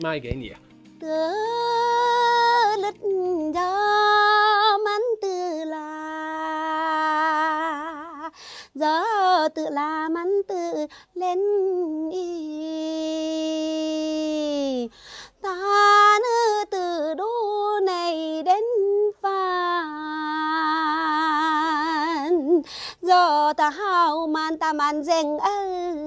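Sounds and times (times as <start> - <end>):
woman singing unaccompanied: 1.0 - 26.0.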